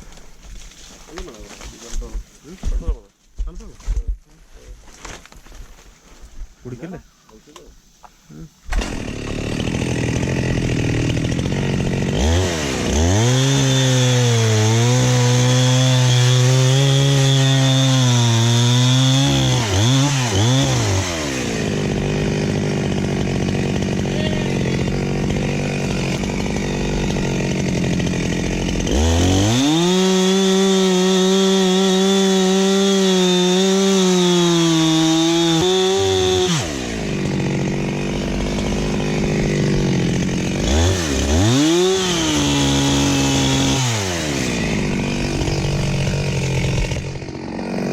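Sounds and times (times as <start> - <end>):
chainsaw revving and idling: 8.7 - 47.9.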